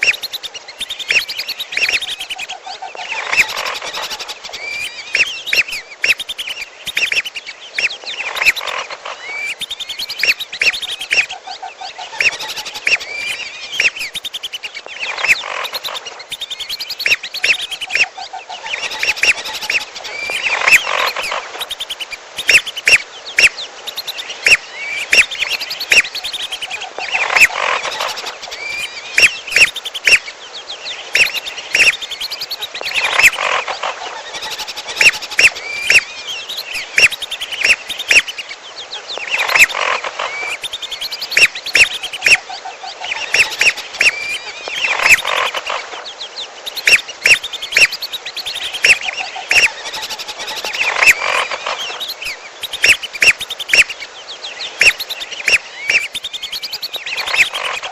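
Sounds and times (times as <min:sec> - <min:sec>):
duck whistles: 0:00.0 - 0:02.5, 0:03.2 - 0:08.8, 0:09.4 - 0:11.3, 0:12.1 - 0:18.1, 0:18.8 - 0:30.2, 0:34.3 - 0:38.4, 0:39.4 - 0:42.4, 0:43.2 - 0:45.6, 0:46.7 - 0:54.0, 0:54.8 - 0:57.8
bird clicky notes and whistled calls: 0:00.0 - 0:11.4, 0:12.1 - 0:30.3, 0:31.1 - 0:42.4, 0:43.0 - 0:45.8, 0:46.6 - 0:57.9.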